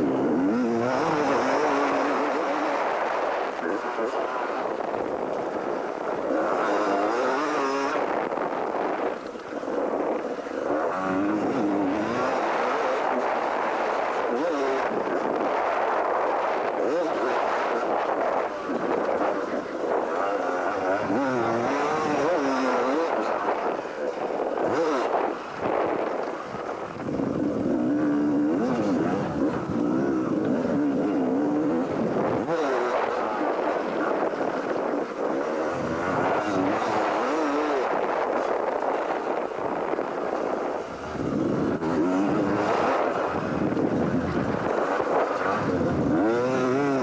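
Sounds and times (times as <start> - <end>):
motocross bike engine revving: 0.0 - 47.0.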